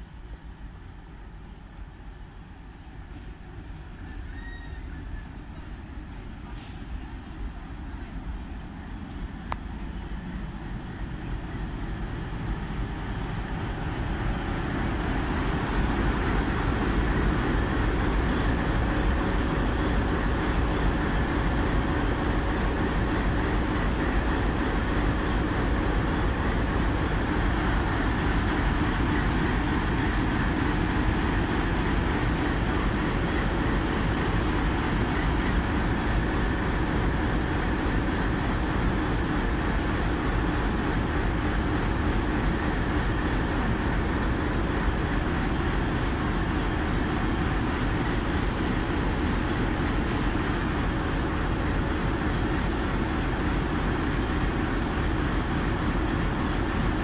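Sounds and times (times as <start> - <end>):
diesel locomotive engine: 0.0 - 57.0.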